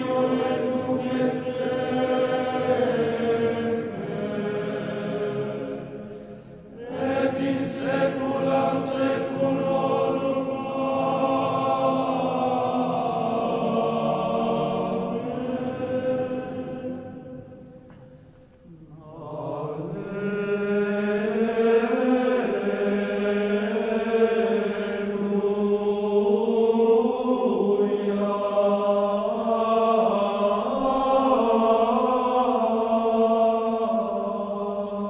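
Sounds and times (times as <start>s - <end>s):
plainchant singing: 0.0s - 35.0s.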